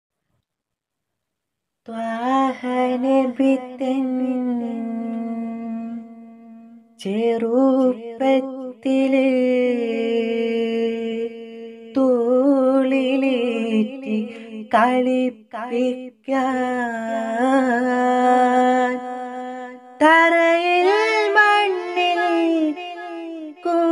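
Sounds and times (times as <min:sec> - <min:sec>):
person singing wordless melody: 0:01.9 - 0:23.9.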